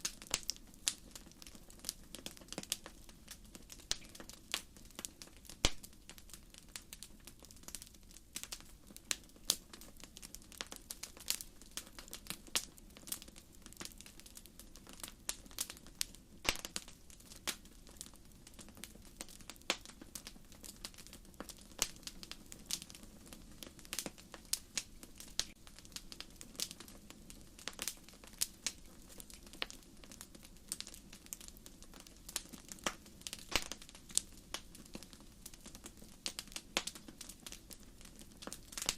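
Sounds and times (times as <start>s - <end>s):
firewood popping: 0.0s - 7.8s, 14.8s - 38.9s
wood fire crackling: 0.0s - 38.9s.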